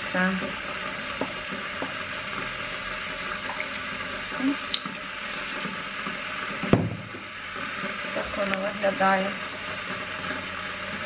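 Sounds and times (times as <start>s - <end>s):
electric kettle hissing: 0.0s - 11.0s.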